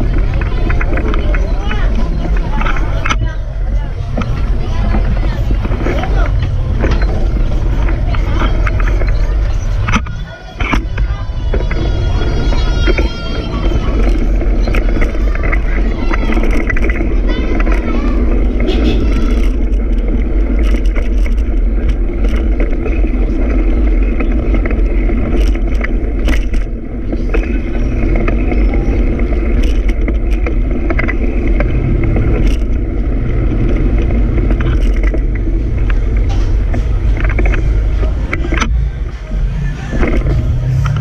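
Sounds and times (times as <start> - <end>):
bicycle road noise: 0.0 - 41.0.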